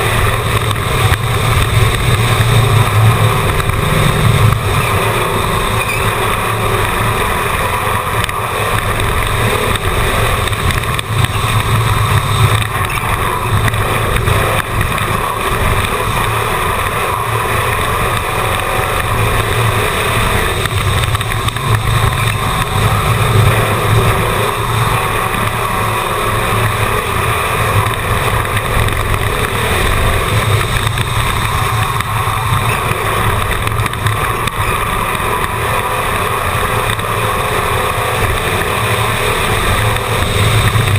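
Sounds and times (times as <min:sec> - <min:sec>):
race car engine drone: 0:00.0 - 0:40.9.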